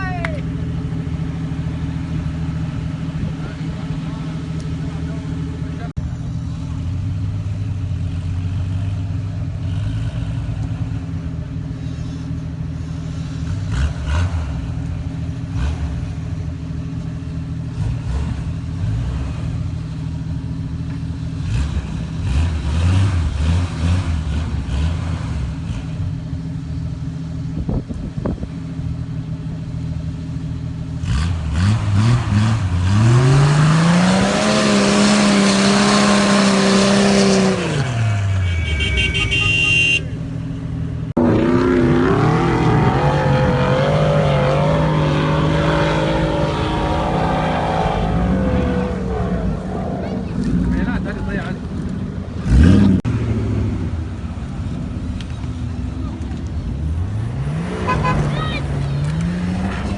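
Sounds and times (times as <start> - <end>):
engine idling and revving: 0.0 - 59.9.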